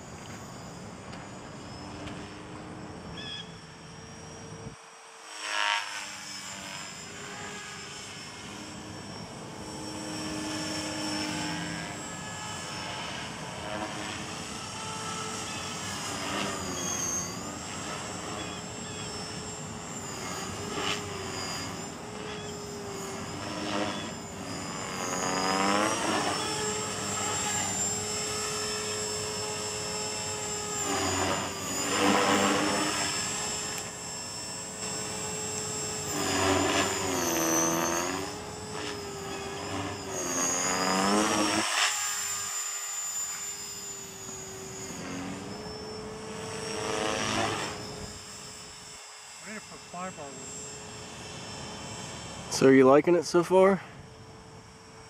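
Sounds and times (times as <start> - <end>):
rc helicopter whine: 0.0 - 55.0.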